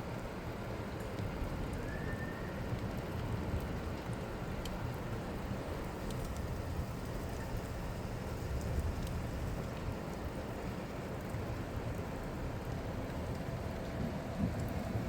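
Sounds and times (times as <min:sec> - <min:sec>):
raindrop ticks: 0:00.2 - 0:01.9, 0:02.6 - 0:15.0.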